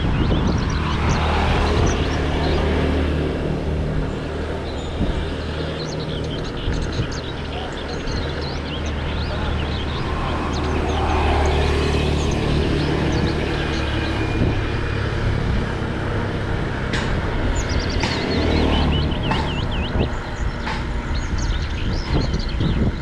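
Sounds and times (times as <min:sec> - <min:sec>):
birds chirping: 0:00.0 - 0:23.0
road rumble of passing vehicles: 0:00.0 - 0:23.0.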